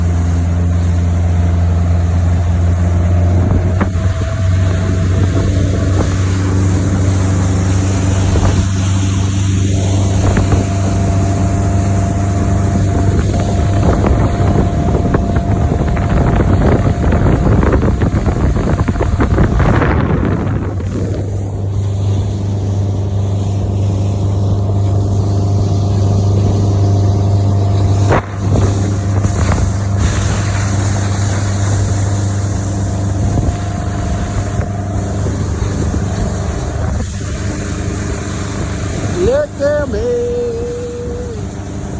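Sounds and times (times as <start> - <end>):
motorboat engine droning: 0.0 - 41.9
water noise: 0.0 - 41.9
wind: 0.0 - 41.9.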